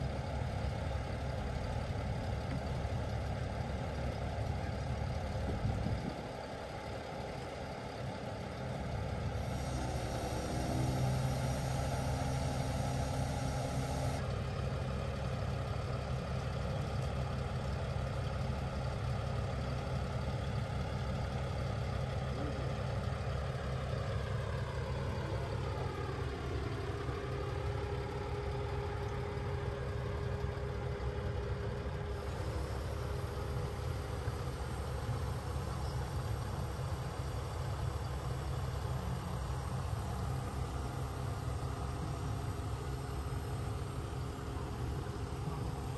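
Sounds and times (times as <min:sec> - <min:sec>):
diesel crane engine running: 0:00.0 - 0:45.9.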